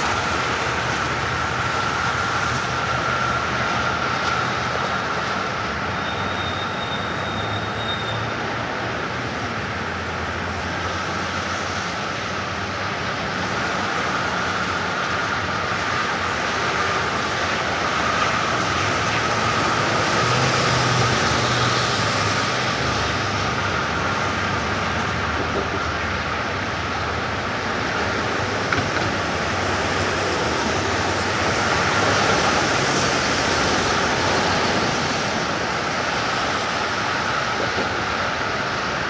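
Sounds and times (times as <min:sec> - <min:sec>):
city traffic: 0:00.0 - 0:39.0.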